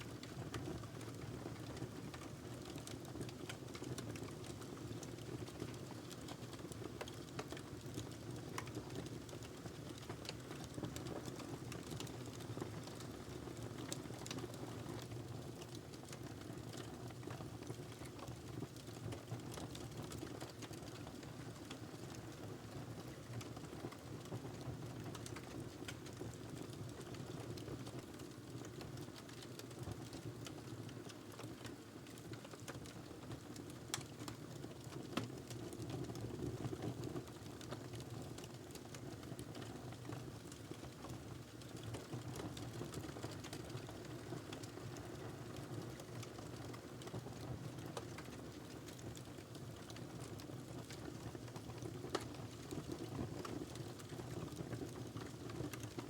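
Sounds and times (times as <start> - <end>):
wood fire crackling: 1.8 - 22.4, 25.0 - 29.9, 30.5 - 56.0.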